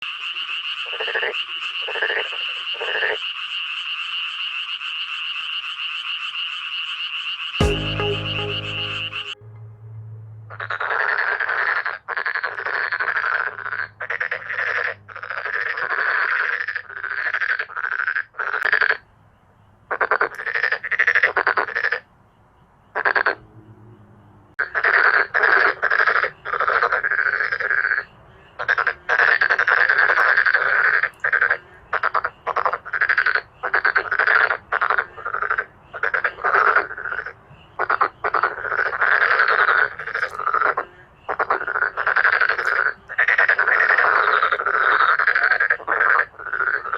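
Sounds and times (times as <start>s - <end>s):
frogs croaking in chorus: 0.0s - 7.6s, 10.9s - 46.9s.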